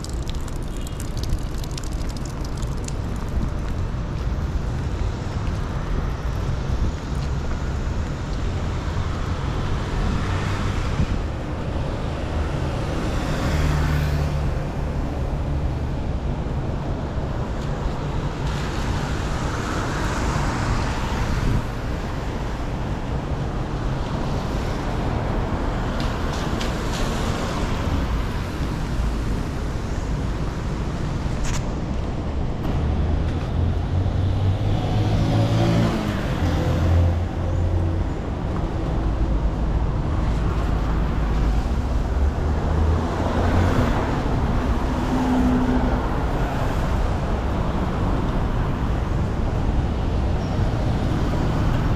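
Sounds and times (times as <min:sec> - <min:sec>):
tyres hissing on wet road: 0:00.0 - 0:11.1, 0:12.0 - 0:16.0, 0:18.2 - 0:31.6, 0:32.7 - 0:49.3
cars passing: 0:00.0 - 0:51.9
low traffic rumble: 0:00.0 - 0:51.9.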